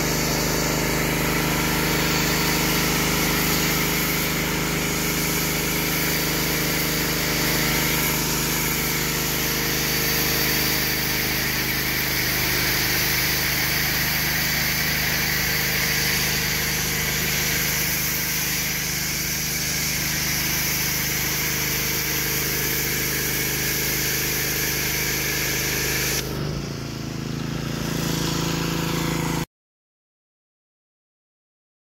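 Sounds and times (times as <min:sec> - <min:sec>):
foam cannon spray hissing: 0:00.0 - 0:26.9
pressure washer engine running: 0:00.0 - 0:29.5.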